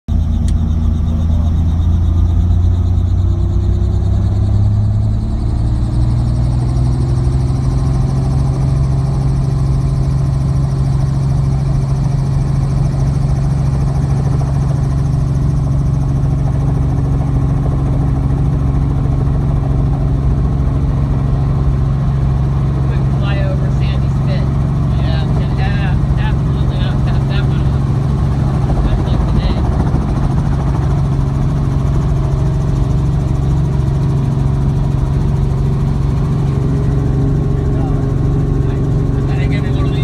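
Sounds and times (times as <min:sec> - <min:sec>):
helicopter engine and rotor: 0:00.1 - 0:40.0.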